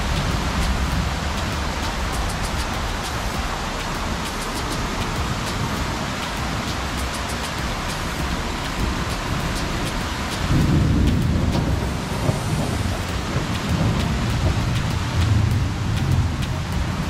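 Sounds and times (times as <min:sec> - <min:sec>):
drops ticking from roof edge: 0:00.0 - 0:17.0
heavy rain hissing: 0:00.0 - 0:17.0
thunder rumbling: 0:00.0 - 0:17.0.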